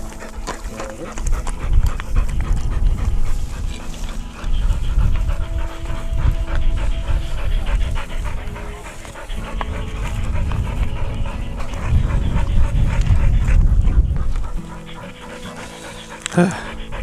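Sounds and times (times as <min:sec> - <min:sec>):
dog panting rapidly: 0:00.0 - 0:17.0.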